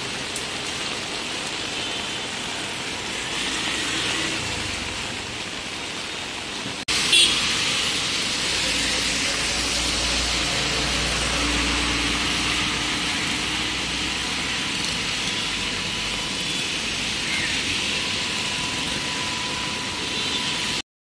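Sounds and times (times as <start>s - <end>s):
heavy rain falling: 0.0s - 20.8s
traffic on wet road: 0.0s - 20.8s.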